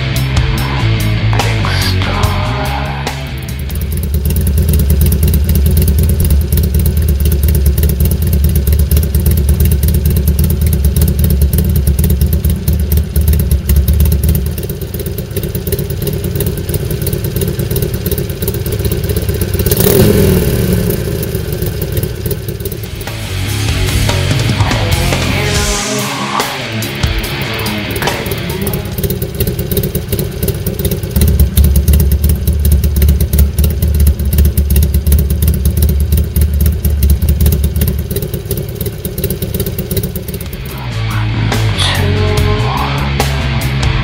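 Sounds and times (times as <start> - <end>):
motorcycle engine idling: 0.0 - 44.0
motorcycle engine revving: 0.0 - 44.0.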